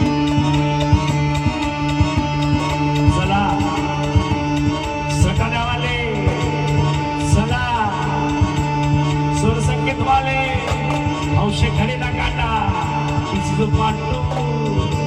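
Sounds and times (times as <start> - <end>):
droning chord: 0.0 - 15.0
drums beating: 0.0 - 15.0.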